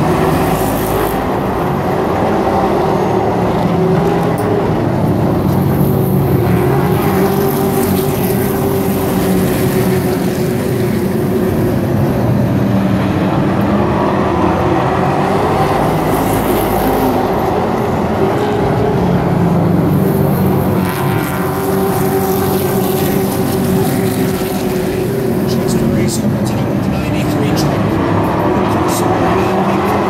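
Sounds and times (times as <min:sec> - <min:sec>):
racing truck engines: 0:00.0 - 0:30.0.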